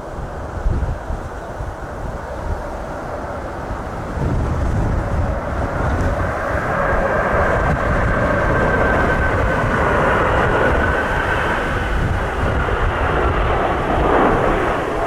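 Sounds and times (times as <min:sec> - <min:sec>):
jet airliner engine whine: 0:00.0 - 0:15.0
wind rumbling on microphone: 0:00.0 - 0:15.0.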